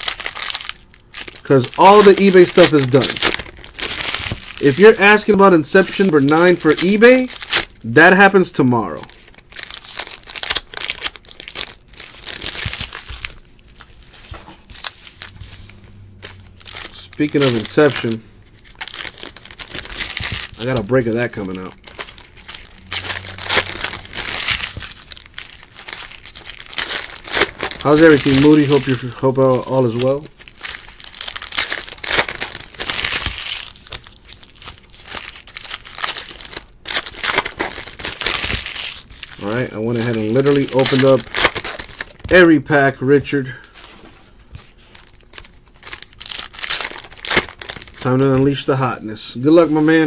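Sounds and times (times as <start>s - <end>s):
foil wrappers crinkling and tearing: 0.0s - 8.3s, 8.9s - 50.0s.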